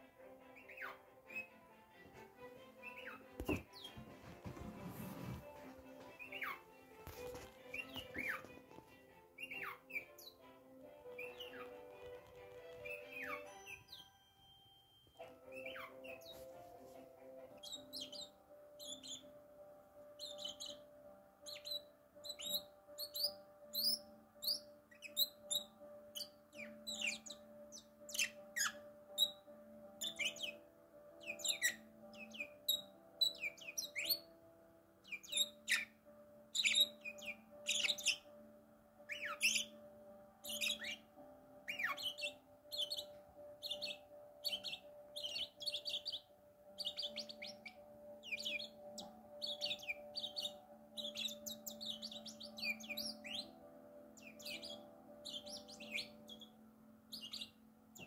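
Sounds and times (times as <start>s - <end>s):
soft sustained music: 0.0s - 58.0s
parakeets chirping: 0.5s - 1.7s, 2.7s - 8.7s, 9.4s - 14.2s, 15.2s - 16.6s, 17.2s - 19.4s, 20.1s - 30.6s, 31.2s - 34.4s, 35.0s - 38.4s, 39.1s - 39.8s, 40.4s - 53.6s, 54.2s - 58.0s.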